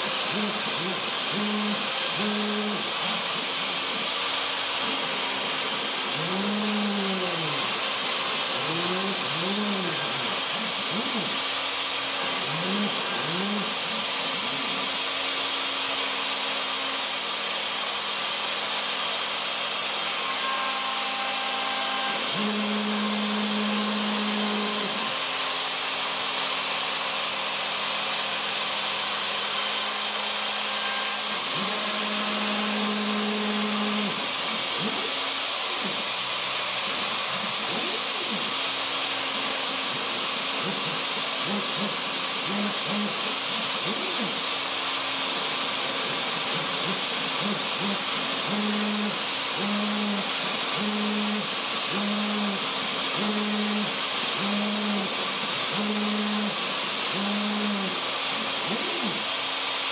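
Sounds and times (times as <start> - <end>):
router whining: 0.0 - 59.9.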